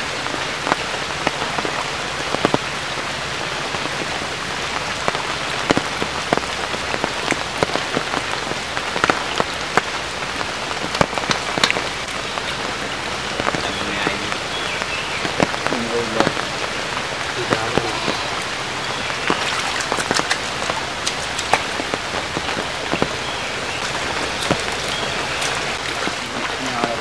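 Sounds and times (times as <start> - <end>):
rain falling on shallow water: 0.0 - 27.0.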